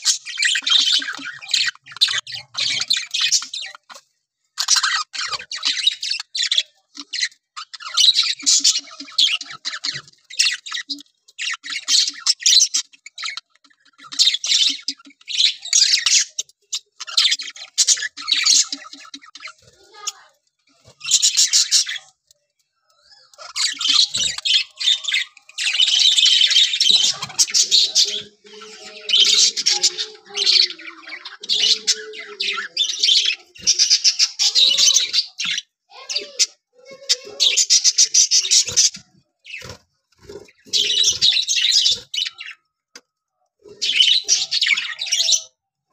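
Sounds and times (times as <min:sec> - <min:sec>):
budgerigars chirping and chattering: 0:00.0 - 0:45.9.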